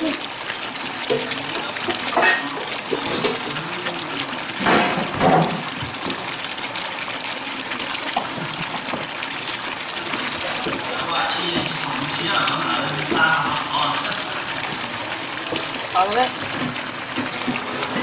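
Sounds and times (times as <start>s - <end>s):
crabs sizzling in a pan: 0.0s - 18.0s.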